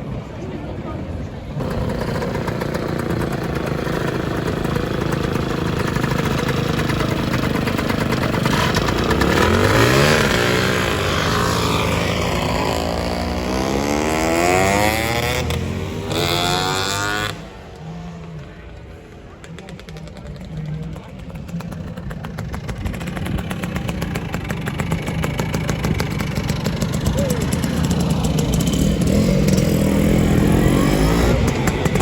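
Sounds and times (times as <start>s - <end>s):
scooter engines revving: 0.0s - 32.0s.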